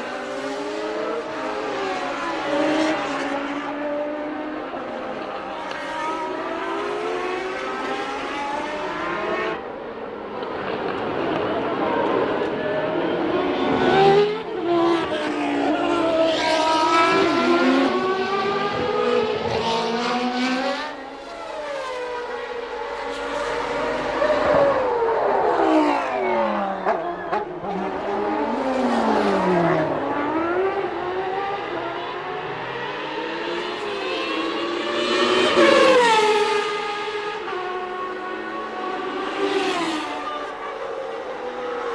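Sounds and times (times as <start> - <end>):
racing car engines at high revs: 0.0 - 41.9.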